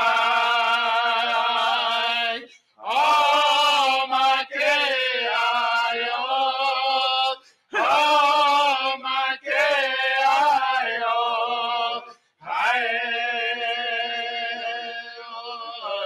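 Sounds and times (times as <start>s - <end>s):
men singing in long phrases: 0.0s - 16.0s.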